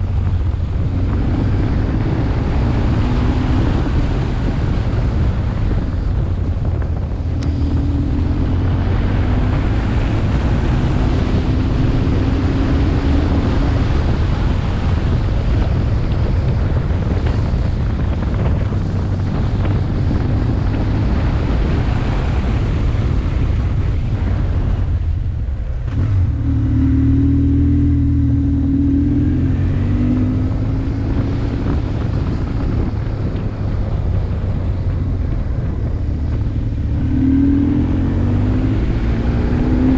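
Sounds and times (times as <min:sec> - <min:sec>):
motorcycle engine running: 0:00.0 - 0:39.9
wind rushing over camera: 0:00.0 - 0:39.9.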